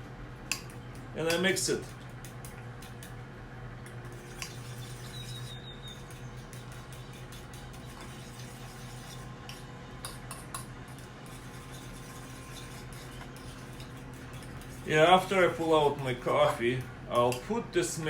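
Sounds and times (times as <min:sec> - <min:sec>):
utensil stirring in a bowl: 0:01.2 - 0:03.2, 0:03.9 - 0:17.5.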